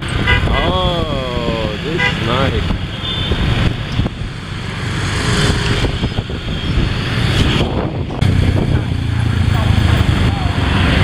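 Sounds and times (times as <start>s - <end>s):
motorbike engines rumbling: 0.0s - 11.0s.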